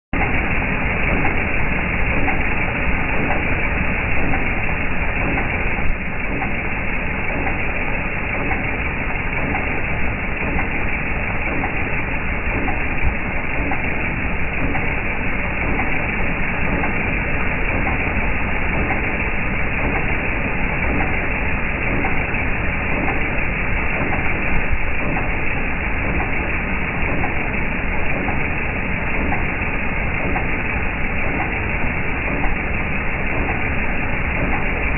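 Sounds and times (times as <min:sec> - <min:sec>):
engine knocking clatter: 0:00.2 - 0:34.9.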